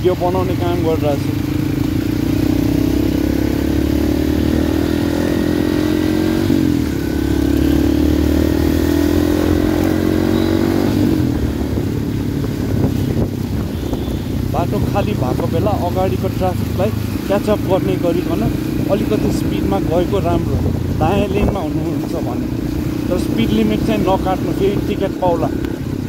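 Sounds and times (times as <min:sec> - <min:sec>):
motorcycle engine accelerating: 0:00.0 - 0:26.0
road and wind noise: 0:00.0 - 0:26.0.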